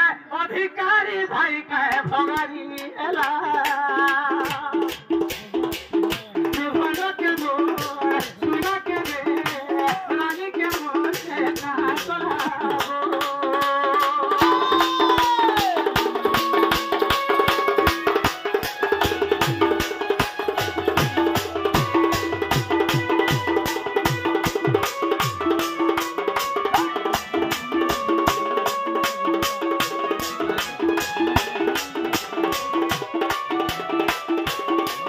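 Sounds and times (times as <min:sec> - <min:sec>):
barrel drum beaten fast: 0:03.9 - 0:35.0.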